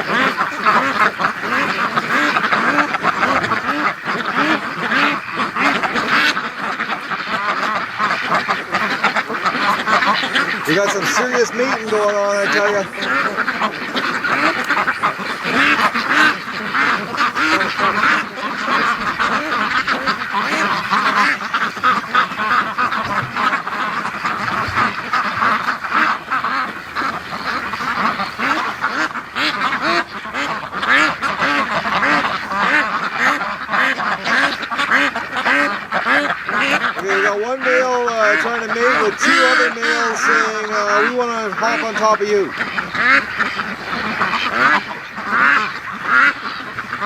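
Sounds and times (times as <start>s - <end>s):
ducks quacking: 0.0s - 47.0s.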